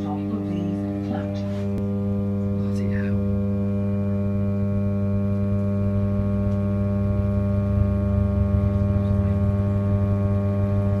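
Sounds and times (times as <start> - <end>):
electric train traction drone: 0.2 - 11.0.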